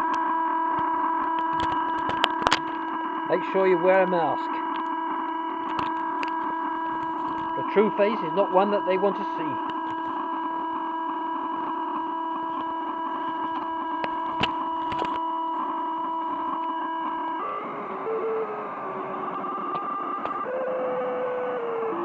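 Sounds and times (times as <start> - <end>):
electronic feedback-like drone: 0.0 - 22.0.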